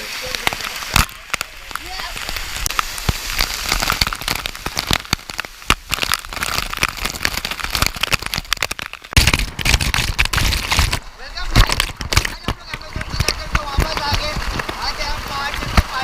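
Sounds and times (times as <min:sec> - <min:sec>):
water splashing and rushing: 0:00.0 - 0:16.0.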